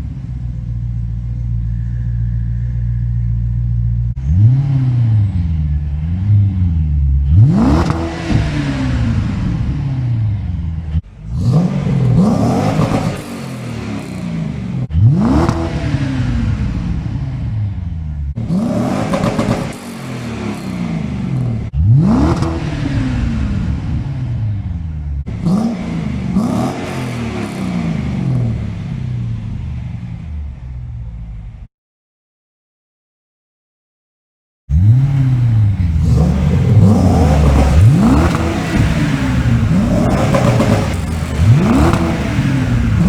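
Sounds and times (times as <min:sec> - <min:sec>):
car engine revving: 0:00.0 - 0:31.1, 0:34.7 - 0:43.0.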